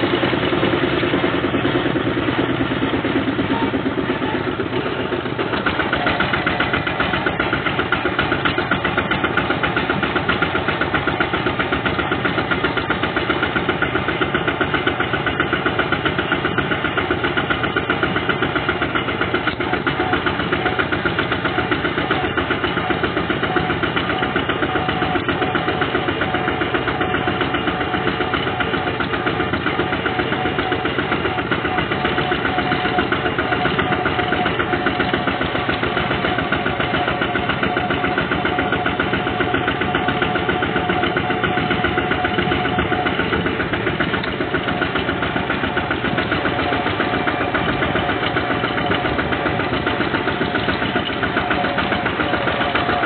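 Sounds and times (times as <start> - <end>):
diesel engine chugging: 0.0 - 53.0.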